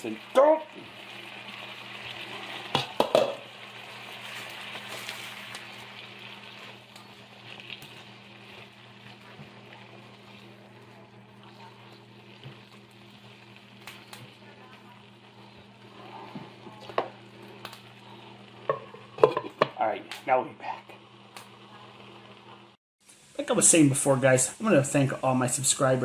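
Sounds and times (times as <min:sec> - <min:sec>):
mushrooms sizzling in oil: 0:00.0 - 0:26.0.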